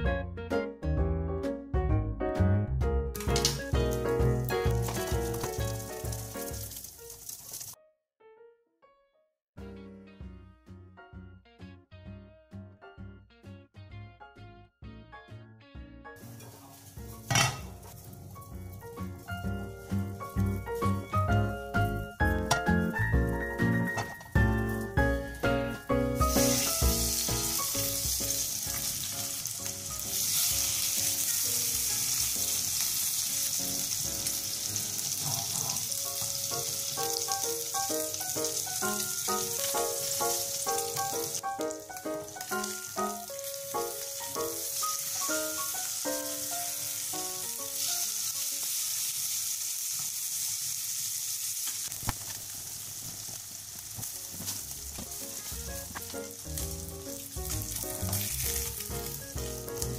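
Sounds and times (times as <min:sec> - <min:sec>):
fish sizzling in frying pan: 0:03.2 - 0:07.8, 0:16.2 - 0:59.9.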